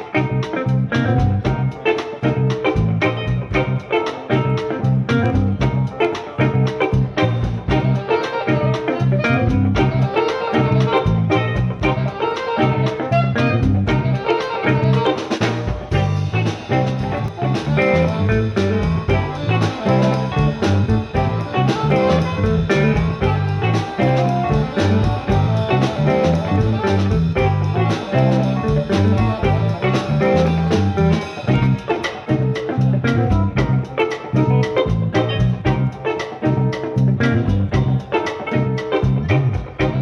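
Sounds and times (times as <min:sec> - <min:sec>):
bass guitar: 0:00.0 - 0:40.0
drum kit beat: 0:00.0 - 0:40.0
guitar: 0:00.0 - 0:40.0.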